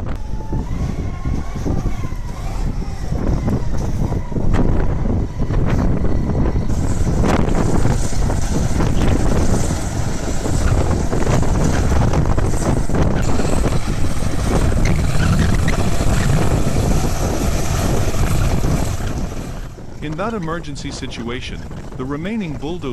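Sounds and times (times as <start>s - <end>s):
bulldozer diesel engine running: 0.0s - 22.9s
wind rumbling on microphone: 0.0s - 22.9s.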